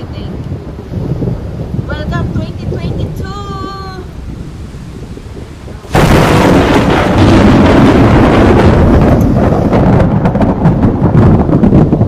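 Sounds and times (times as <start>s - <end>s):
rain: 0.0s - 12.0s
thunder crack and rumble: 0.0s - 12.0s.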